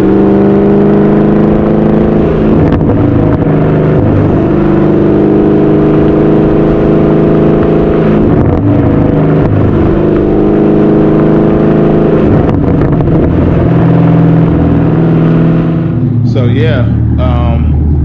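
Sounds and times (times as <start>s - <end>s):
straight-piped car engine revving: 0.0s - 18.0s.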